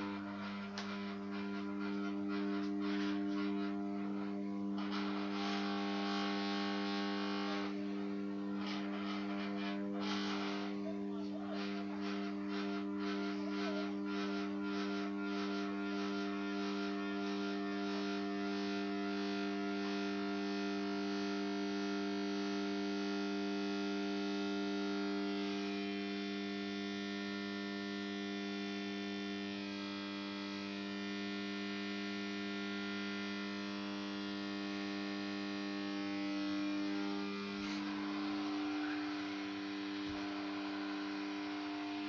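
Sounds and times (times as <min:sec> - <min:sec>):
electrical mains hum: 0:00.0 - 0:42.0
faint pulsing: 0:00.0 - 0:42.0.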